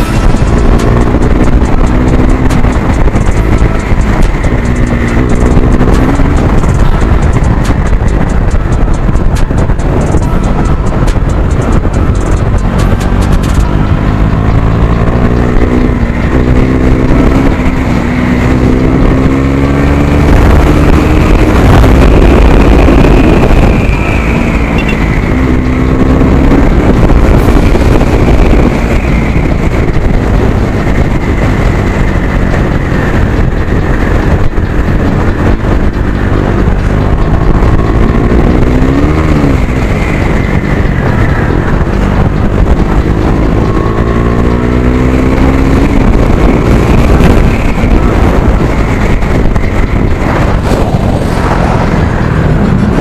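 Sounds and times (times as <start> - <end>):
motorcycle engine revving loud: 0.0 - 53.0.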